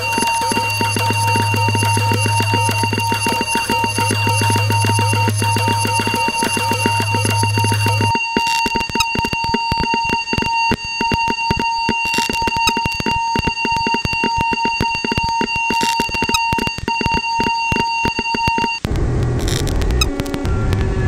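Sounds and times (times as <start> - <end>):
high alarm-like tone: 0.0 - 18.9
rapid irregular clicks: 0.0 - 21.0.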